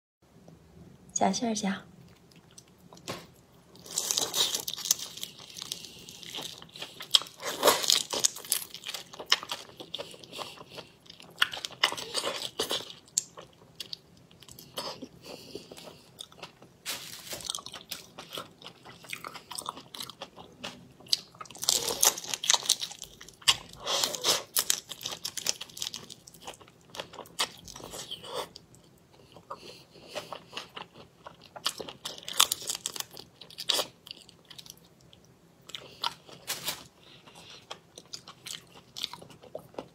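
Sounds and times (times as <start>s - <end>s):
crunching and chewing shrimp: 2.0s - 39.9s.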